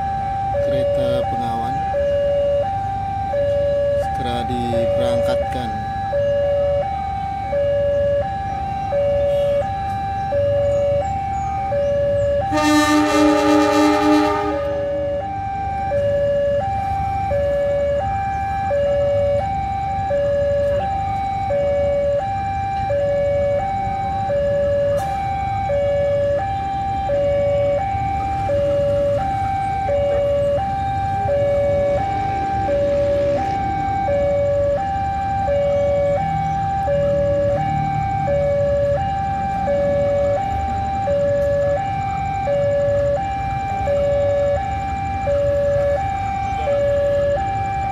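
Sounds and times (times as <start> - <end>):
two-tone electronic alarm: 0.0 - 47.9.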